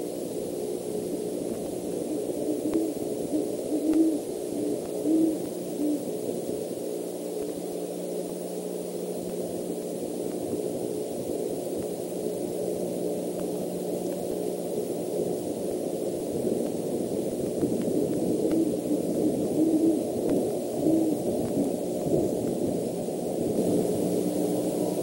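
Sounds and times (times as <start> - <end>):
owl hooting: 0.0 - 8.8, 10.4 - 25.0
faint steady hum: 0.0 - 25.0
low rumble and hiss: 0.0 - 25.0.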